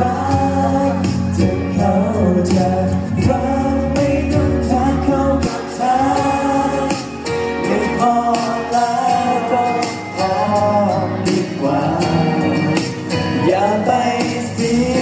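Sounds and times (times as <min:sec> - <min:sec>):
backing music: 0:00.0 - 0:15.0
men singing pop song live: 0:00.0 - 0:15.0.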